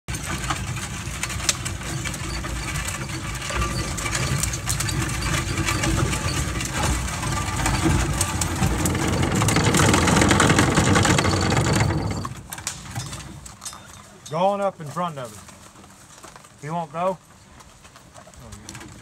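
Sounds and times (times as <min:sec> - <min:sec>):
chains and hooves clicking: 0:00.1 - 0:19.0
wagon wheels rumbling on gravel: 0:00.1 - 0:19.0.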